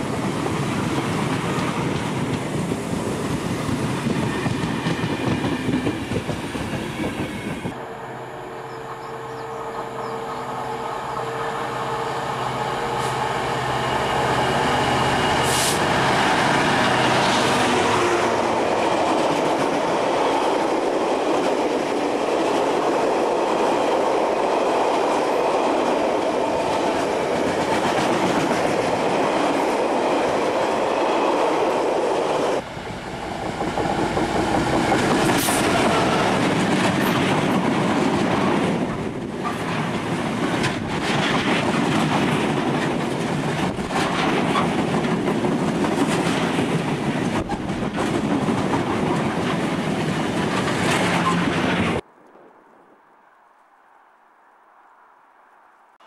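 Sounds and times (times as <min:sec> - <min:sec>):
train wheels rumbling on rails: 0:00.0 - 0:07.8, 0:08.7 - 0:52.1
diesel locomotive engine: 0:00.0 - 0:52.0.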